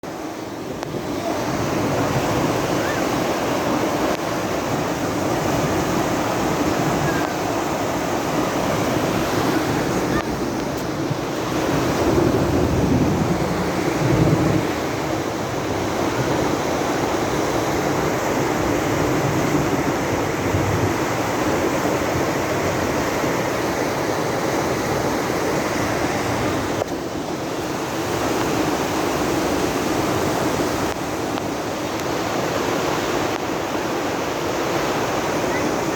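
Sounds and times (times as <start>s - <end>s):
floodwater rushing: 0.0s - 35.9s
wind on microphone: 0.0s - 35.9s.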